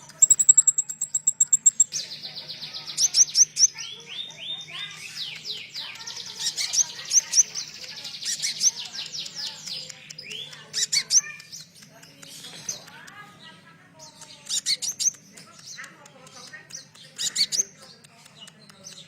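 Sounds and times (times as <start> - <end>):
songbird chattering song: 0.0 - 19.0.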